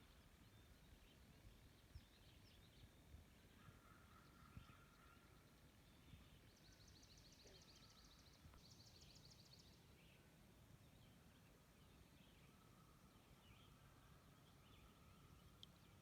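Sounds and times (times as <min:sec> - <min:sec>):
distant birdsong trills: 0:00.0 - 0:16.0.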